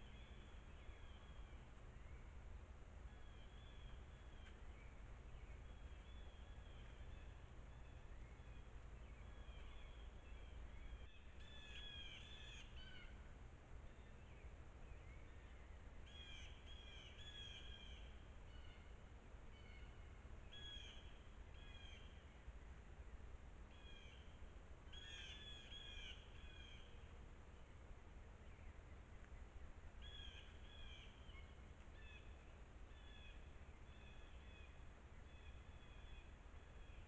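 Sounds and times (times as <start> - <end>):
faint bird calls: 0.0 - 22.5, 23.6 - 37.0
low background rumble: 0.0 - 37.0.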